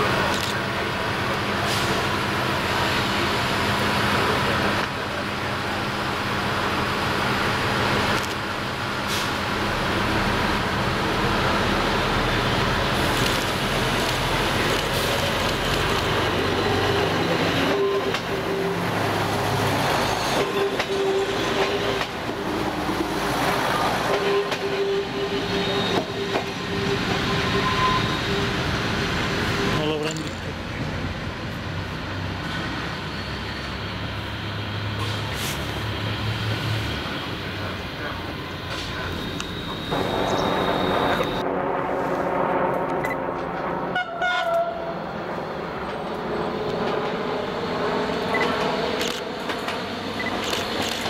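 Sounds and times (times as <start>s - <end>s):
diesel railcar engine rumble: 0.0s - 51.0s.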